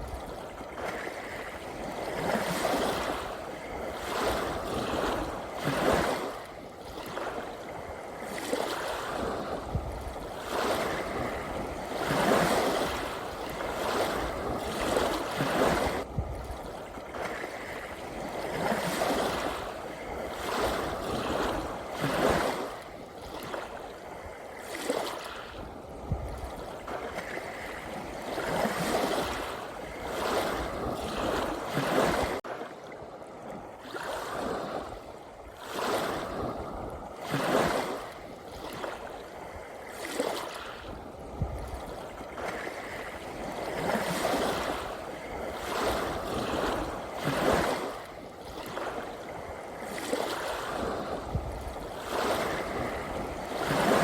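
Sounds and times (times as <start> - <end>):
small sea waves washing: 0.0 - 54.0.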